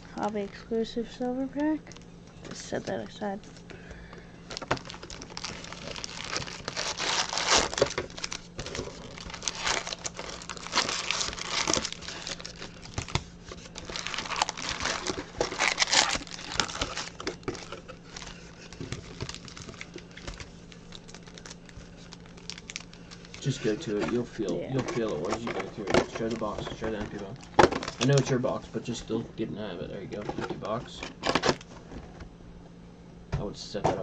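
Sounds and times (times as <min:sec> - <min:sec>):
card packs crinkling: 0:02.8 - 0:29.2, 0:29.9 - 0:31.8.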